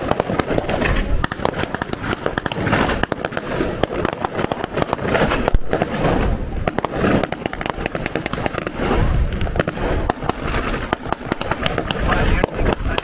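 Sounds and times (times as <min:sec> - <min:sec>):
blank gunfire cracking: 0:00.0 - 0:13.0
noisy background: 0:00.0 - 0:13.0.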